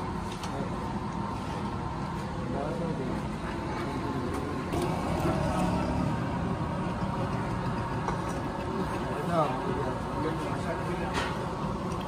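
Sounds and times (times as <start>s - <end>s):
street traffic engines rumbling: 0.0s - 12.0s.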